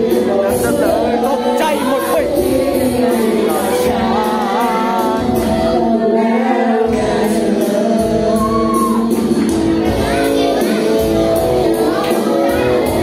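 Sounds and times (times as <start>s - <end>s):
backing music track: 0.0s - 13.0s.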